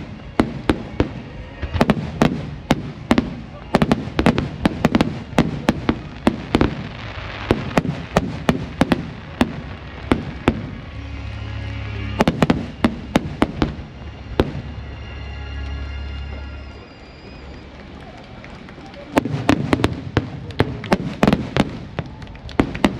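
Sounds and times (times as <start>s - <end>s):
music: 0.0s - 19.8s.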